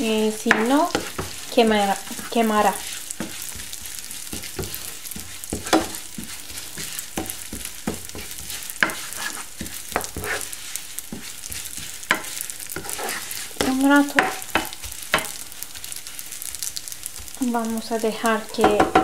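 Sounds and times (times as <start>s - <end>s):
noodles sizzling in a pan: 0.0s - 19.0s
wooden spoon scraping a pan: 0.0s - 19.0s.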